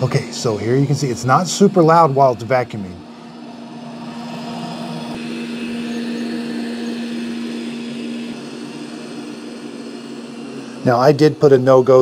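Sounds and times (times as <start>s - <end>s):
low hum: 0.0s - 12.0s
robot vacuum whirring: 0.0s - 12.0s.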